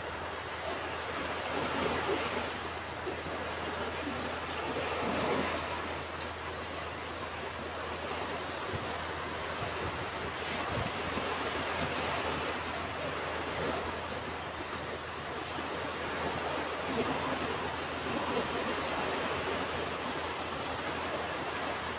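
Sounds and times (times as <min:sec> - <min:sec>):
waves washing onto beach: 0:00.0 - 0:21.9.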